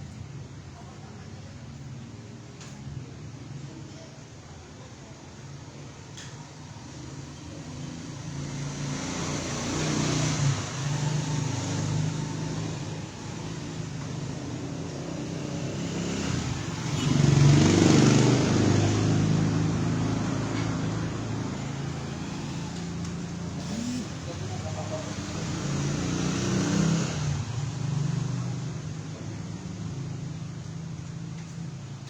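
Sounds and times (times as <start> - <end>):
vehicle engines passing by: 6.0 - 32.0.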